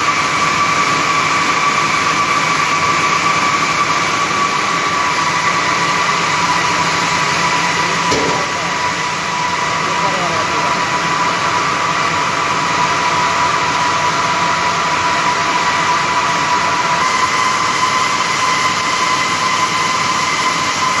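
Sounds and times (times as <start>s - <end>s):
constant machine whine: 0.0s - 21.0s.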